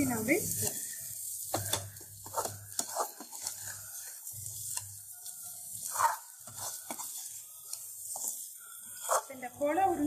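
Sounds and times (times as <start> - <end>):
food squelching in gravy: 0.0 - 9.6
metal spatula scraping pan: 0.0 - 9.7.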